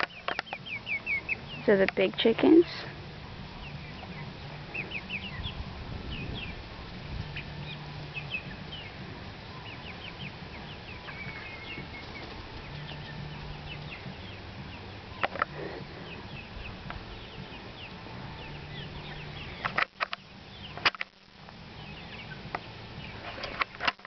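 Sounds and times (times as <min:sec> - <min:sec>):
chicks peeping and chirping: 0:00.0 - 0:24.0.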